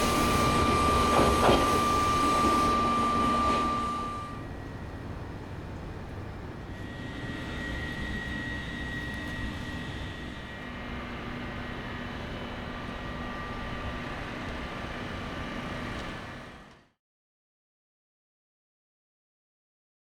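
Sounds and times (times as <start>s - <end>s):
electric train running: 0.0s - 16.8s.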